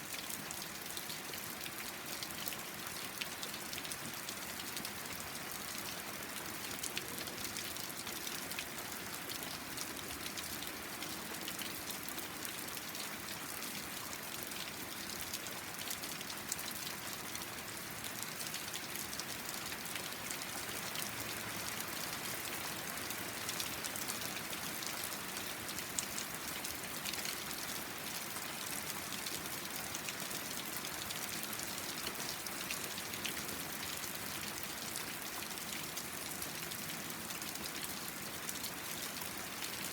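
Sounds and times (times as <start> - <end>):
rain pattering on a deck: 0.0 - 39.9.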